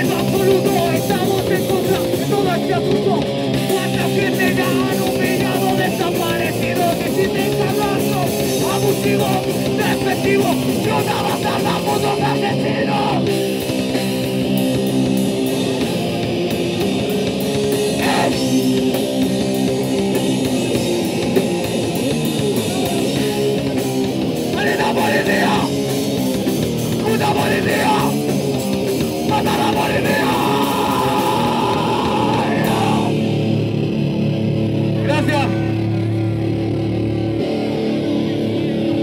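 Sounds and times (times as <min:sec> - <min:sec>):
punk rock band playing live: 0:00.0 - 0:39.0.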